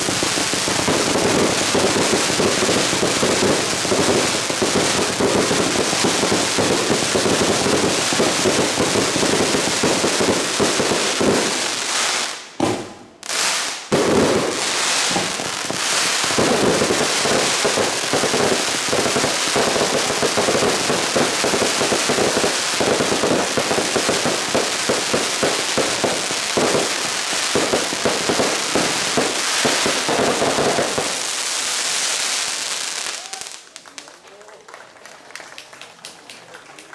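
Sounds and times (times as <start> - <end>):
fireworks crackling: 0.0 - 34.8.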